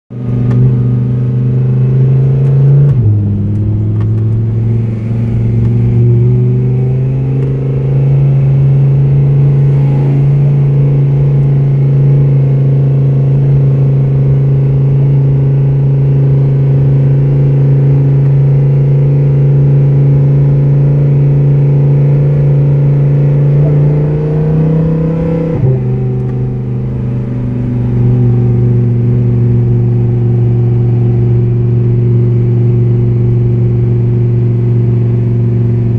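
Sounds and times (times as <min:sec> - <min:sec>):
car engine drone from inside cabin: 0:00.1 - 0:35.9.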